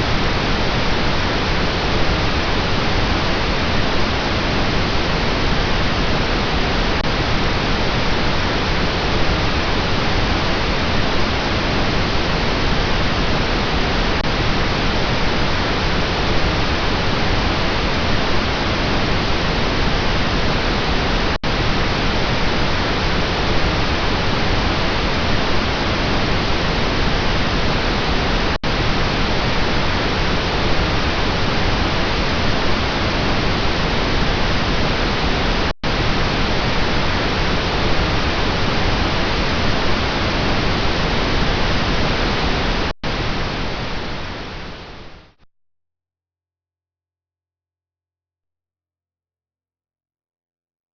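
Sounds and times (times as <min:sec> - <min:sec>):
steady pink noise hiss: 0:00.0 - 0:45.4.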